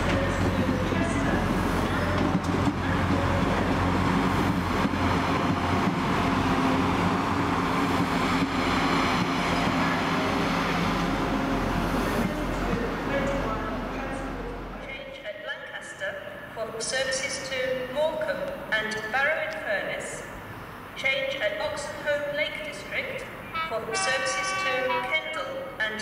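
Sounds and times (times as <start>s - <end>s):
passenger train rumbling past: 0.0s - 16.6s, 17.2s - 26.0s.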